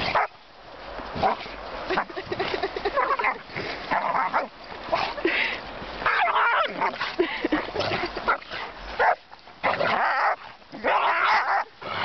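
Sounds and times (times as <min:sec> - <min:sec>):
dogs growling yipping and barking: 0:01.2 - 0:05.2, 0:06.0 - 0:12.0.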